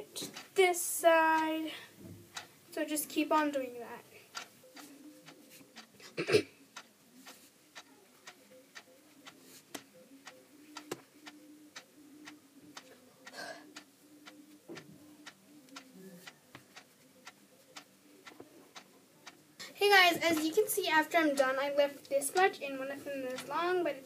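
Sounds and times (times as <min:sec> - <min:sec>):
faint even ticking: 0:01.3 - 0:24.0.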